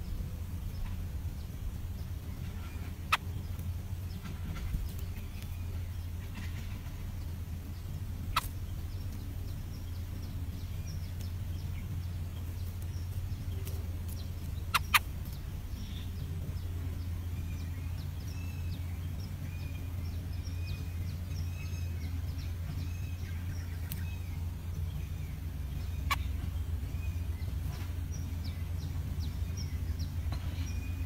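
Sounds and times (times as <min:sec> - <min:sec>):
bird chirps: 0:00.0 - 0:31.0
steady low hum: 0:00.0 - 0:31.0.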